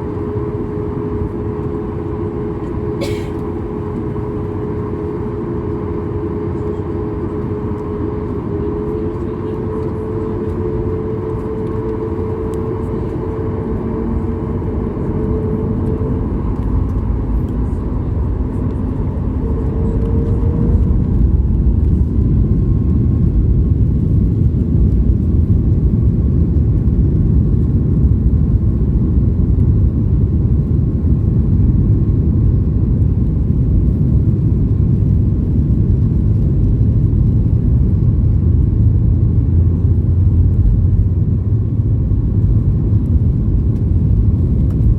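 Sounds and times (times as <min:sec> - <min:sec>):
jet engines deep rumble: 0:00.0 - 0:44.9.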